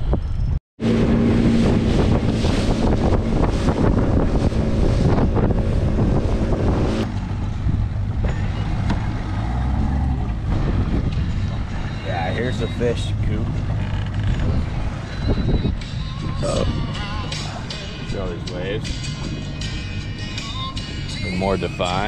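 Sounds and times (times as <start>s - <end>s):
wind buffeting microphone: 0.0s - 22.0s
boat engine drone: 0.8s - 22.0s.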